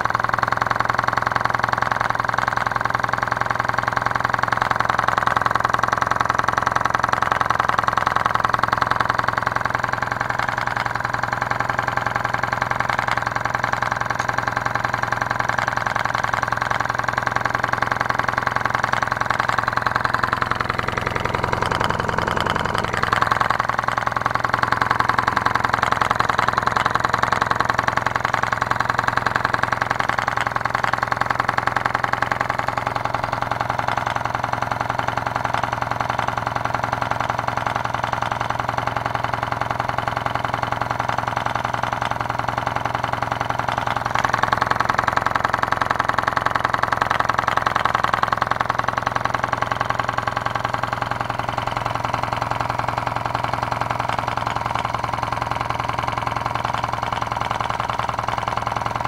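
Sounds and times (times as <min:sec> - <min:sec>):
small engine rattling rapidly: 0:00.0 - 0:59.0.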